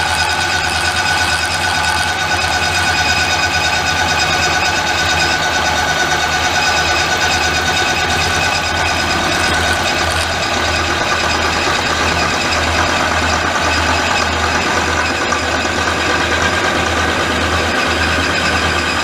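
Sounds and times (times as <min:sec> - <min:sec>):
lathe tool cutting steel: 0:00.0 - 0:19.0
metal lathe gear whine: 0:00.0 - 0:19.0.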